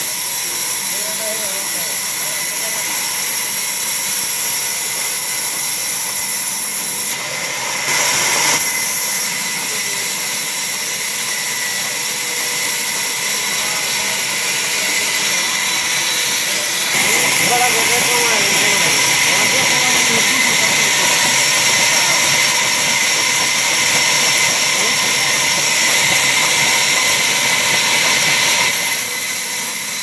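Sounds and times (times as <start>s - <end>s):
band saw cutting timber: 0.0s - 30.0s.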